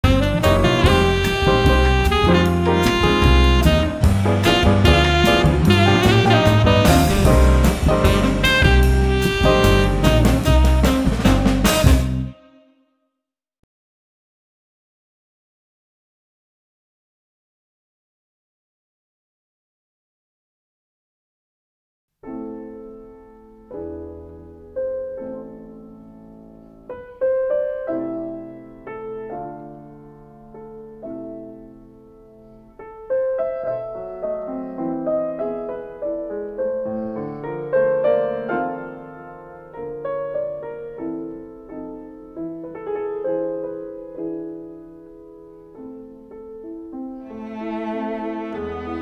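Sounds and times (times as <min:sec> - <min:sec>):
slow piano melody: 0:00.0 - 0:12.8, 0:22.2 - 0:49.0.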